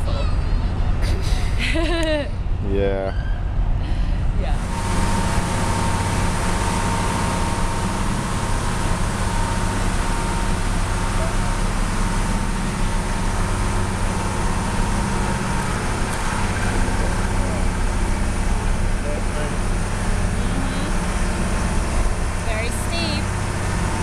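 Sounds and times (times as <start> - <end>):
road noise: 0.0 - 24.0
vehicle engine rumble: 0.0 - 24.0.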